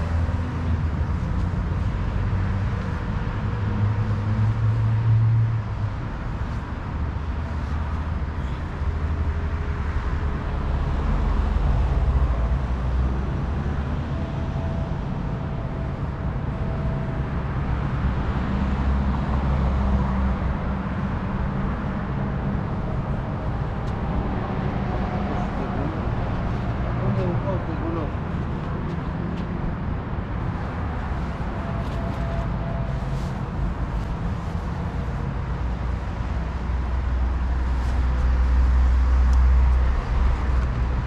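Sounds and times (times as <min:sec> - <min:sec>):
engine running low rumble: 0:00.0 - 0:41.0.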